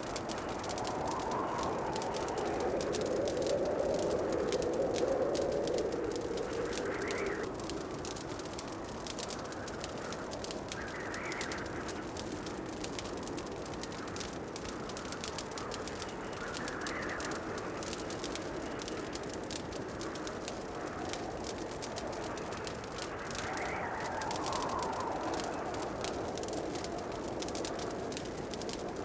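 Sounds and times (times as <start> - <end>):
soft rushing hiss: 0.0 - 29.0
wood fire crackling: 0.0 - 29.0.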